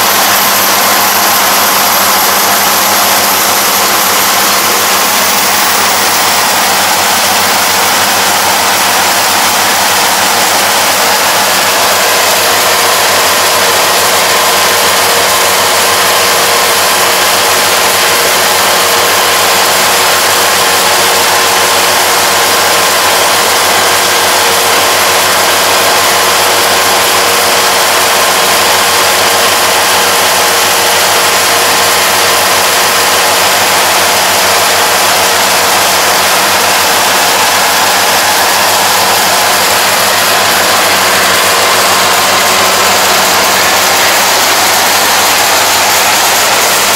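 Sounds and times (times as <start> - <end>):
combine harvester drone: 0.0 - 46.9.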